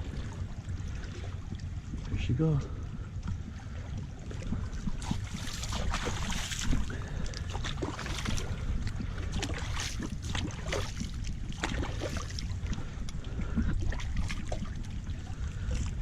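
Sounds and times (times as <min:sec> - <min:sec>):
river water lapping: 0:00.0 - 0:16.0
wind buffeting microphone: 0:00.0 - 0:16.0.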